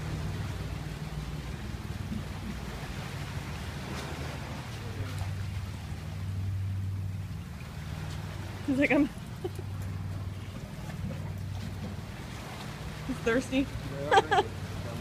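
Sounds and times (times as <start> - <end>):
small waves breaking on rocks: 0.0 - 15.0.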